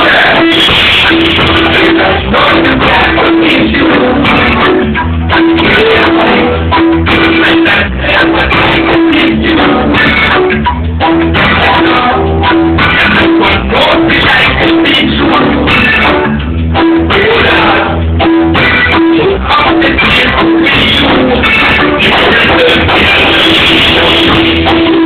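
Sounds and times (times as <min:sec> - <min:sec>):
drums: 0:00.0 - 0:25.0
reggae band playing: 0:00.0 - 0:25.0
repeating bass line: 0:00.0 - 0:25.0.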